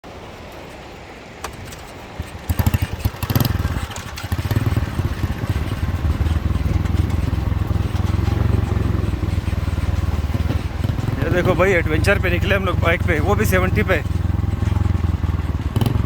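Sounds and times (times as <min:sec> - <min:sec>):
motorcycle engine revving and chugging: 0:01.6 - 0:16.0.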